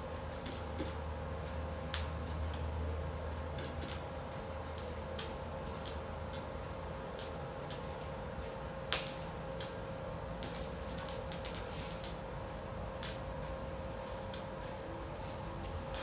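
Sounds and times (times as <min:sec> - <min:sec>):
arc welder electrical hum: 0:00.0 - 0:16.0.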